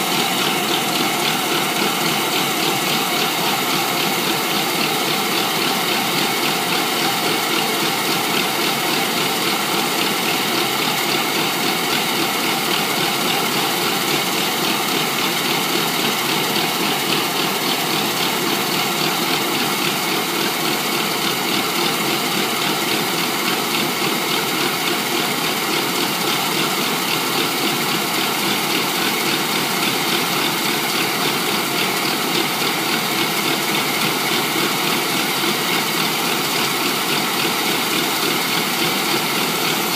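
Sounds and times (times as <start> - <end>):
combine harvester machinery running: 0.0 - 39.9.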